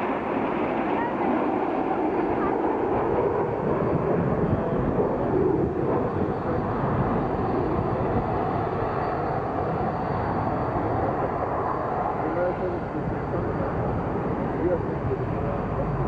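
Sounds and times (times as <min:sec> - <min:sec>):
jets flying over: 0:00.0 - 0:16.0.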